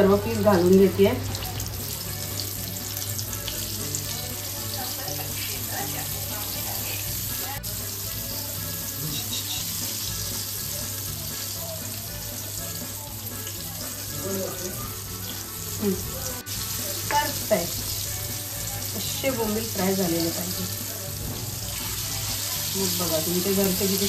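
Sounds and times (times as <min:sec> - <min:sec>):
fish sizzling in oil: 0:00.0 - 0:24.0.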